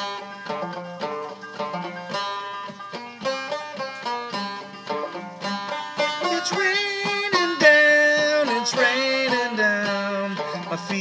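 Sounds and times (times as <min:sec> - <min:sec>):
banjo plucked notes: 0:00.0 - 0:11.0.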